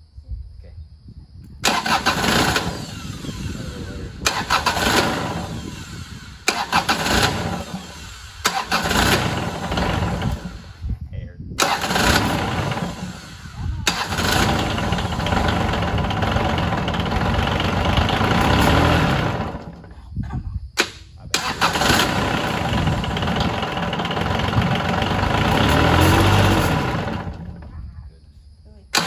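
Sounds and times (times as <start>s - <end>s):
diesel engine cranking on starter: 1.6s - 10.9s, 11.6s - 20.0s, 20.8s - 27.8s.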